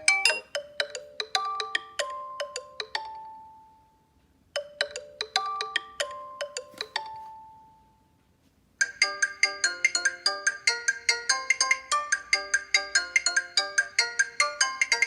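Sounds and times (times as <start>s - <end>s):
busy ringtone melody: 0.0s - 8.1s, 8.8s - 15.0s
chiming phone melody: 0.0s - 8.2s, 8.8s - 15.0s.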